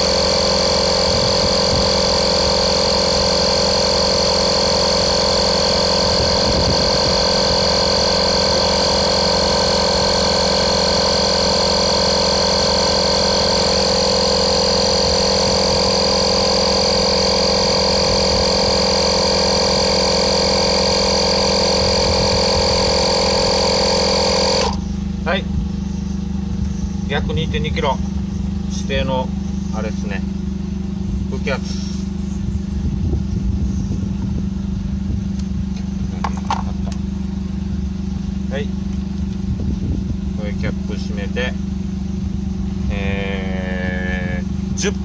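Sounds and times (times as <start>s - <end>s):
electric air compressor running: 0.0s - 45.0s.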